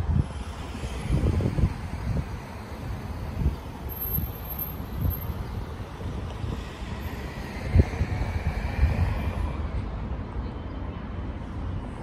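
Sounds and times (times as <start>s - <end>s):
wind buffeting microphone: 0.0s - 10.5s
low rumbling noise: 0.0s - 10.6s.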